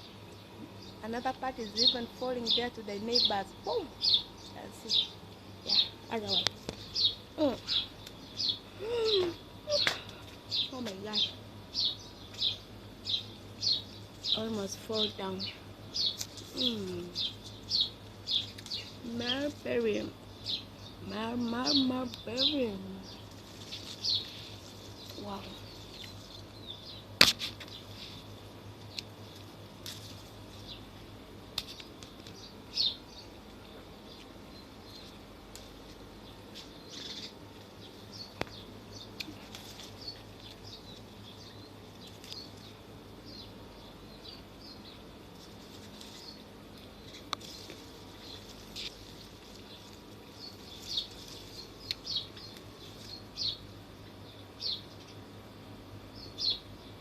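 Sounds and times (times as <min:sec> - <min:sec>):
low steady hum: 0:00.0 - 0:57.0
small birds chirping: 0:00.0 - 0:57.0.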